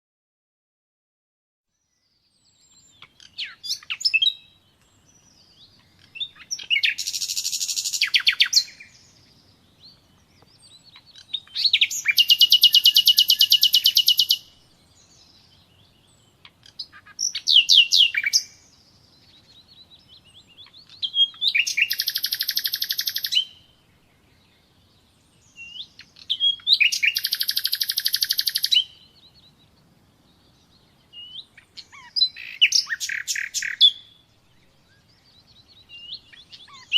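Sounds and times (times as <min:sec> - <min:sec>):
soft bird chirps: 0:01.7 - 0:36.9
songbird trilling: 0:02.3 - 0:23.8, 0:24.7 - 0:29.8, 0:30.4 - 0:36.9.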